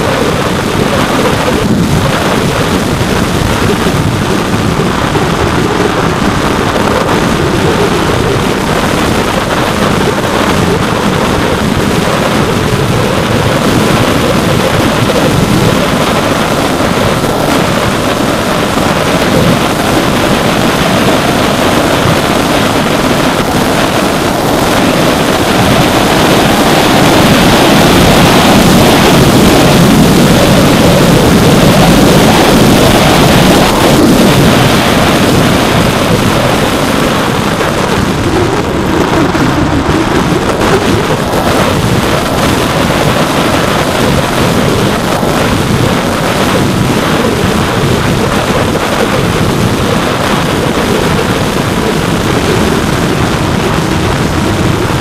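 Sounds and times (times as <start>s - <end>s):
electric motor and propeller drone: 0.0s - 55.0s
wind rushing over microphone: 0.0s - 55.0s.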